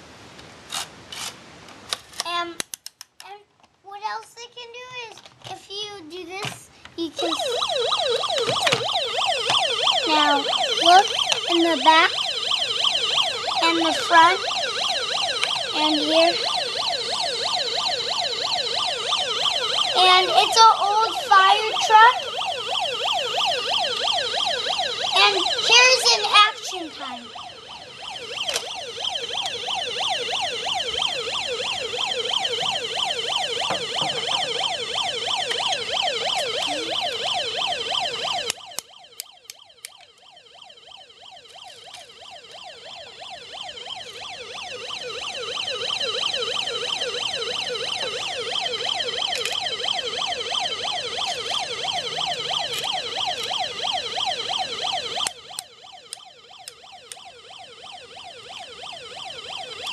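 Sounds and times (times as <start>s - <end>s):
toy siren warbling: 7.0s - 59.9s.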